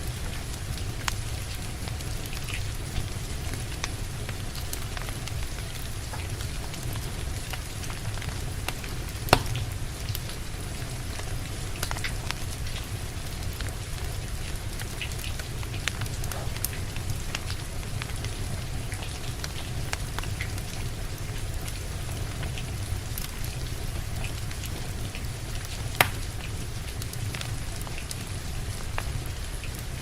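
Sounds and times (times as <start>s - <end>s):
steady rain: 0.0s - 30.0s
wood fire crackling and popping: 0.0s - 30.0s.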